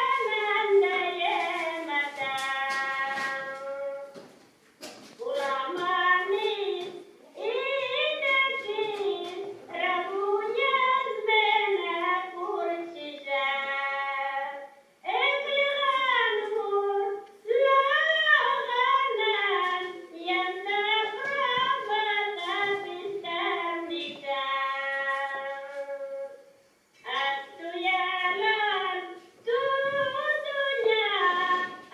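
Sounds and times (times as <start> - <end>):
high voice singing unaccompanied: 0.0 - 4.3, 5.2 - 31.9.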